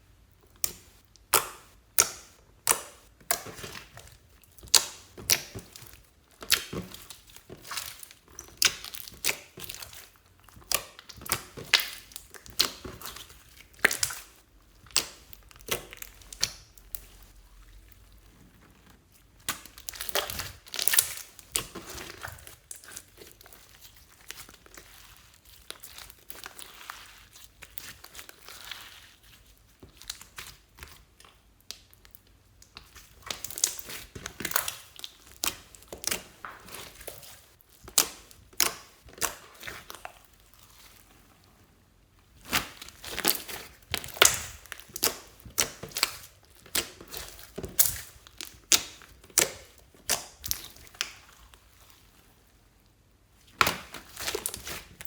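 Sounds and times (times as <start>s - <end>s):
slime popping and crackling: 0.5s - 17.4s, 18.8s - 29.0s, 29.8s - 40.9s, 42.4s - 51.5s, 53.4s - 55.0s.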